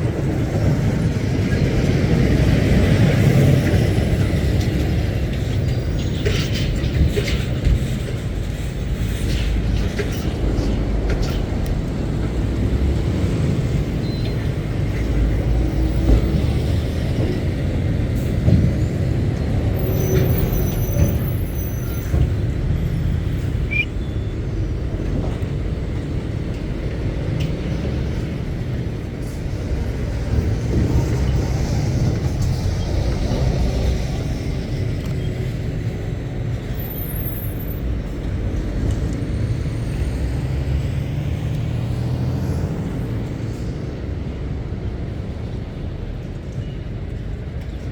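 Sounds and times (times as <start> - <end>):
diesel lorries passing: 0.0 - 47.9.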